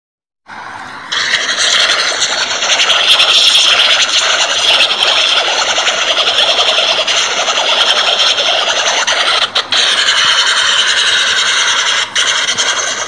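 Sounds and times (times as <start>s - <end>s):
distorted noisy soundtrack audio: 1.1s - 13.0s.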